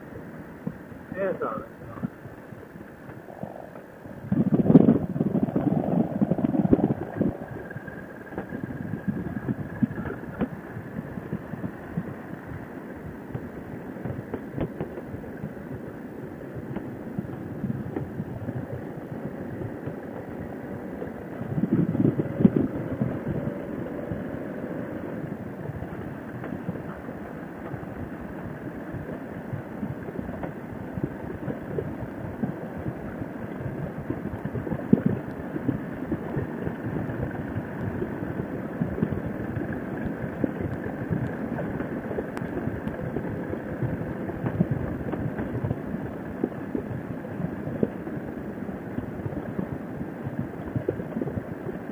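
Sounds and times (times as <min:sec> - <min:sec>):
road noise: 0:00.0 - 0:46.5.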